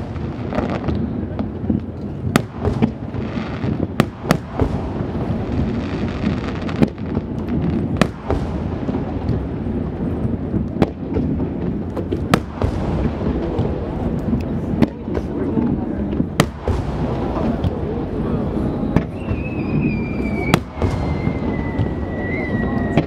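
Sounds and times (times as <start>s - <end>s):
firework rumble and crackle: 0.0s - 23.0s.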